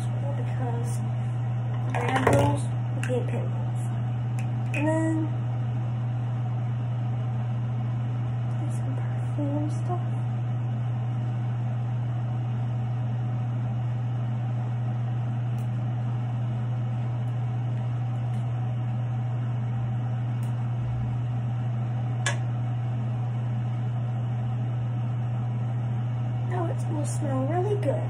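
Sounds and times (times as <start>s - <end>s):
fan humming: 0.0s - 28.0s.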